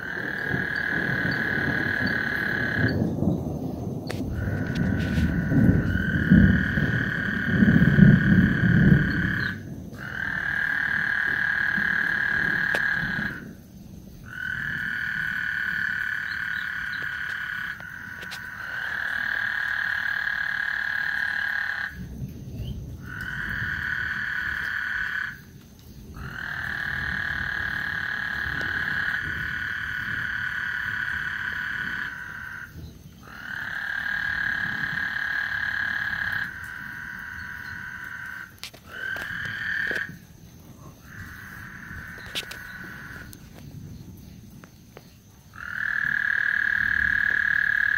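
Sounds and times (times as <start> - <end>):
frogs trilling: 0.0 - 47.9.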